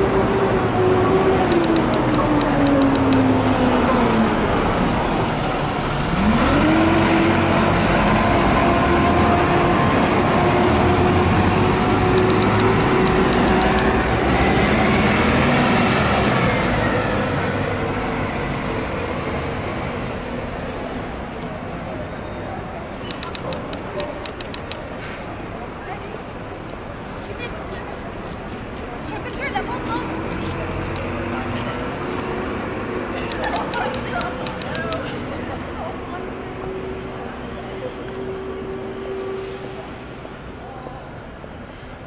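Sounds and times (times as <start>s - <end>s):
street traffic: 0.0s - 42.0s.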